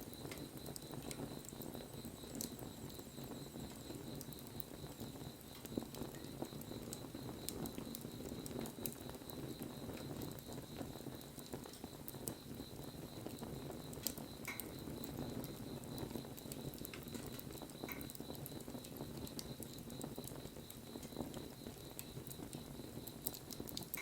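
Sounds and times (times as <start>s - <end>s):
burning wood crackling and popping: 0.0s - 24.0s
low rush of flame: 0.0s - 24.0s.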